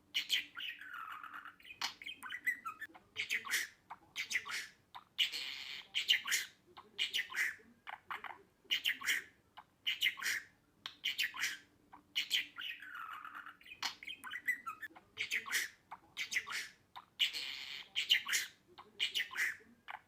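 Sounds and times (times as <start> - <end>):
budgerigar chattering: 0.1 - 20.0.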